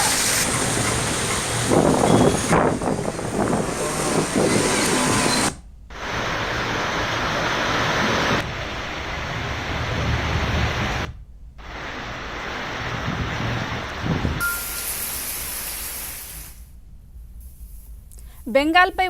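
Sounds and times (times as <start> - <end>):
road traffic: 0.0 - 16.1
heavy rain: 0.0 - 16.6.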